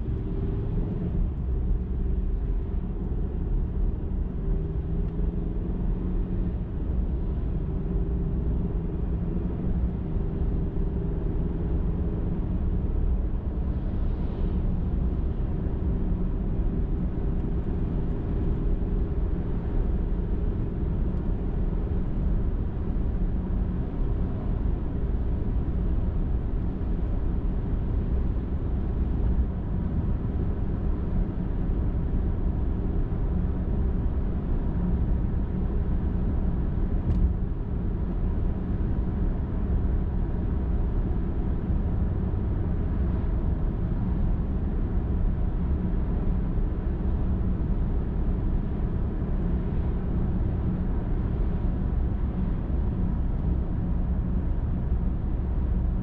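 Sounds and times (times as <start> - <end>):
car driving on highway: 0.0 - 56.0.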